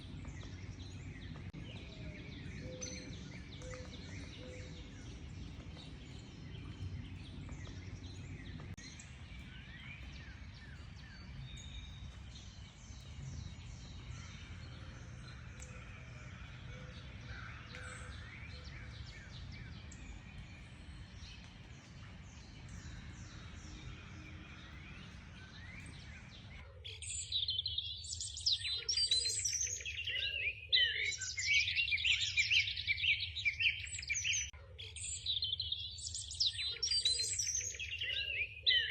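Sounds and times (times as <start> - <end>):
songbirds singing faintly: 0.0 - 38.9.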